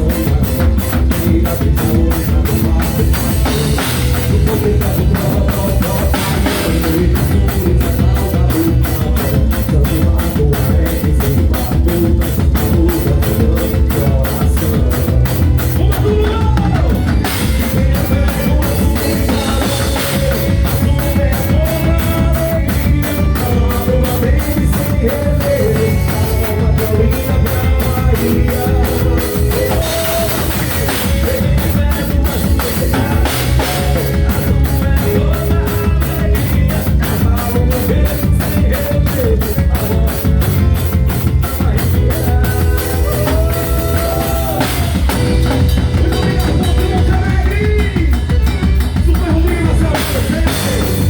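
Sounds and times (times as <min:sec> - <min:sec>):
drum kit playing rock beat: 0:00.0 - 0:51.0.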